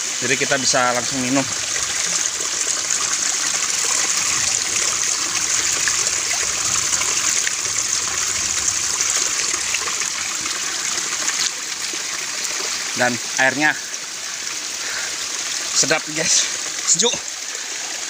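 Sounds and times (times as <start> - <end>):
spring water trickling: 0.0 - 18.0.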